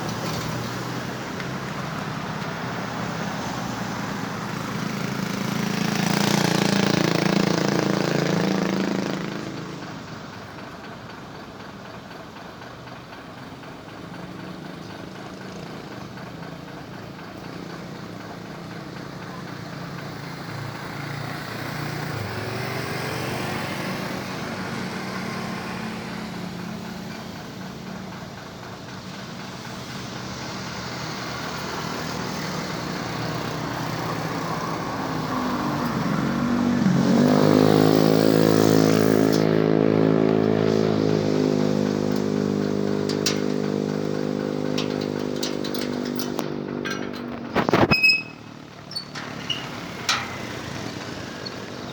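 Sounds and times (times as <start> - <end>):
truck diesel engines passing: 0.0 - 51.9.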